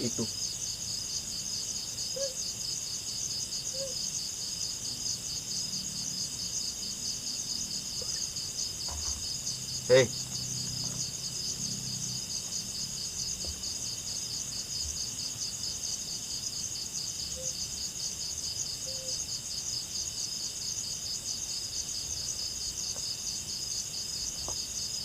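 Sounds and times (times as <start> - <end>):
night insects trilling: 0.0 - 25.0.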